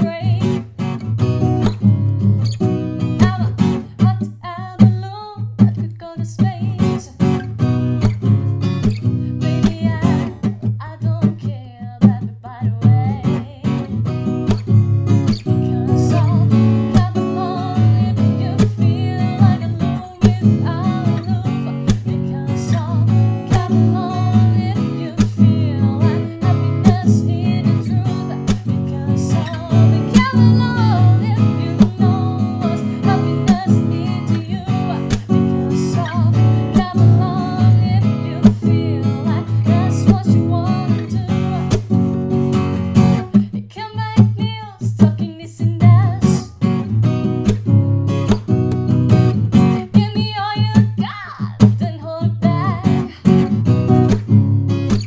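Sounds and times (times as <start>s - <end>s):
acoustic guitar strummed chords: 0.0s - 4.3s, 6.5s - 10.8s, 12.9s - 43.6s, 45.8s - 51.0s, 51.6s - 55.0s.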